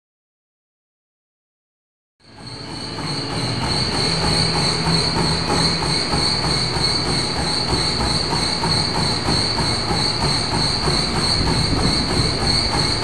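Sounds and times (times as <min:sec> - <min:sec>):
treadmill motor whine: 0:02.2 - 0:13.0.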